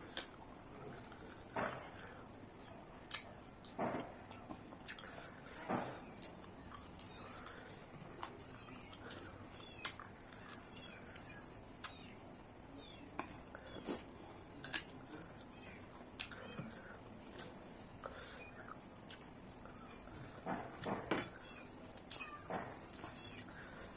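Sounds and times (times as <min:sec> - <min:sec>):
person chewing food: 0:00.0 - 0:12.2, 0:12.9 - 0:23.9.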